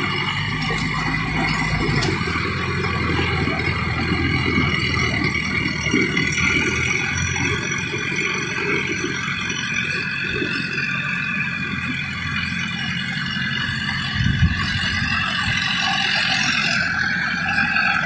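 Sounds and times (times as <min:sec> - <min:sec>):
tiller rattling: 0:00.0 - 0:18.0
tractor diesel engine running: 0:00.0 - 0:18.0.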